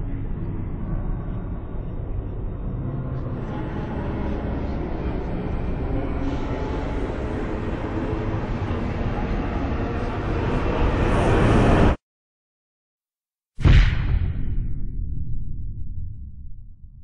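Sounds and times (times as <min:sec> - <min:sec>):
deep rumbling drone: 0:00.0 - 0:12.0, 0:13.6 - 0:17.0.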